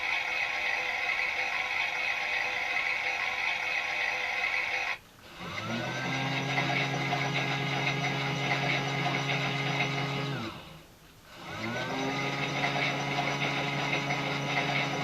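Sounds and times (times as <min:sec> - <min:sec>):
small electric motor turning drum: 0:00.0 - 0:15.0.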